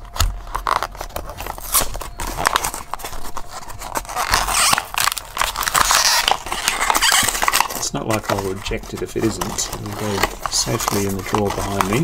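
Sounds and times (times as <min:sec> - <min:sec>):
plastic blister pack crackling: 0:00.0 - 0:12.0.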